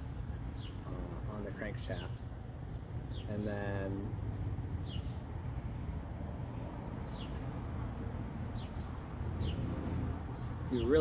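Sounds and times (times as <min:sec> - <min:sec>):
bird chirping: 0:00.0 - 0:11.0
steady low rumble: 0:00.0 - 0:11.0.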